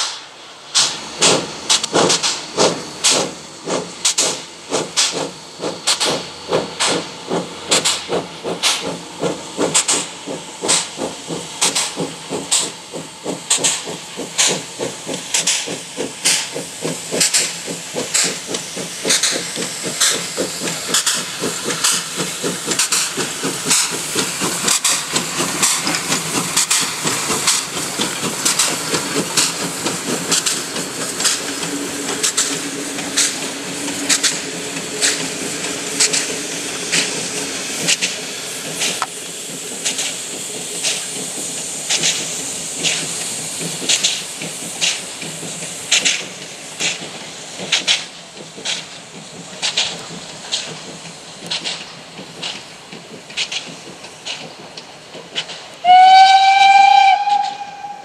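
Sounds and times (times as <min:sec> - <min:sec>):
steam hissing: 0:00.0 - 0:58.0
steam locomotive exhaust chuffs: 0:00.0 - 0:58.0.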